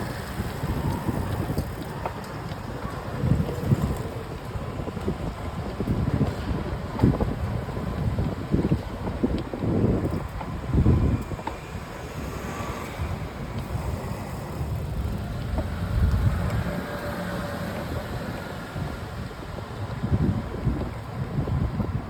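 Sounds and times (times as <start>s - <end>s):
faint bicycle clicks: 0.0s - 21.9s
wind buffeting microphone: 0.0s - 22.0s.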